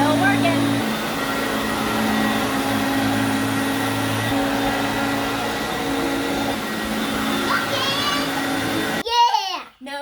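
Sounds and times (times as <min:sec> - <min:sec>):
vacuum cleaner running: 0:00.0 - 0:09.0.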